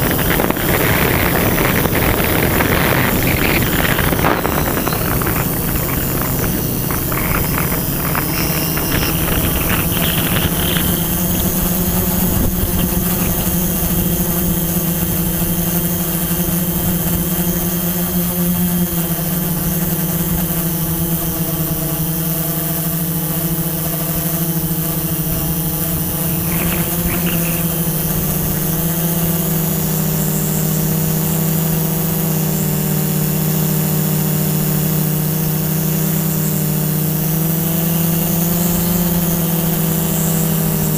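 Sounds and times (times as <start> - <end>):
drone motors humming: 0.0 - 40.9.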